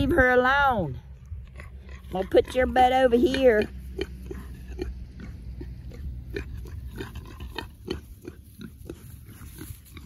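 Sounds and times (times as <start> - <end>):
pigs snuffling: 0.0 - 10.0
pigs chewing: 1.0 - 10.0.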